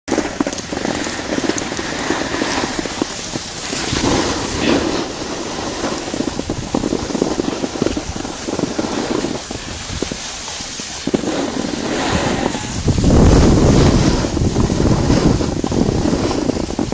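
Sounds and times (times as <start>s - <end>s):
skis scraping over snow: 0.1s - 16.9s
wind buffeting microphone: 1.3s - 16.9s.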